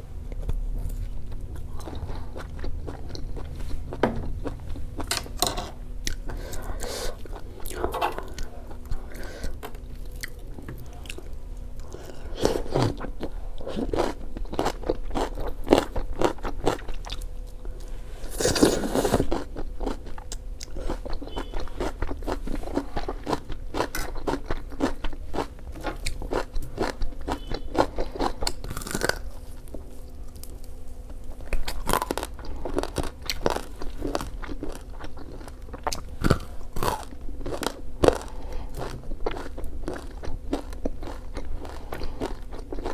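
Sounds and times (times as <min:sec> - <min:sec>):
person biting and chewing food: 0:06.0 - 0:42.9.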